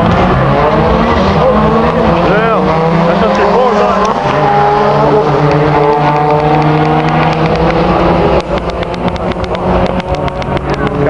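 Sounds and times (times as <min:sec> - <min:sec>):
racing car engine at full throttle: 0:00.0 - 0:11.0.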